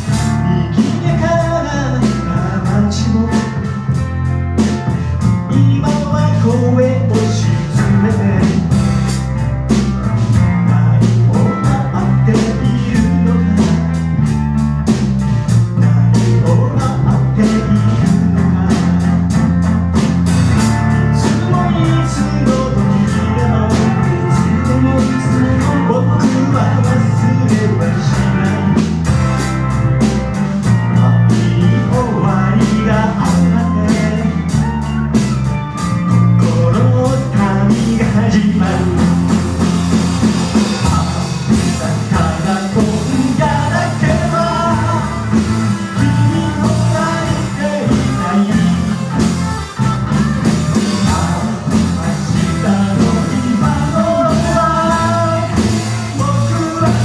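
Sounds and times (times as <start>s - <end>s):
live rock band playing: 0.0s - 57.0s
melodic lead guitar line: 0.0s - 57.0s.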